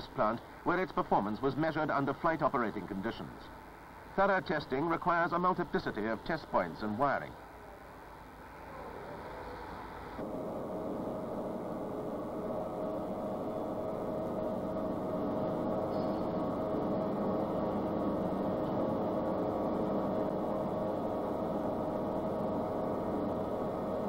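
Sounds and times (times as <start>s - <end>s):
jet engine droning: 0.0s - 24.0s.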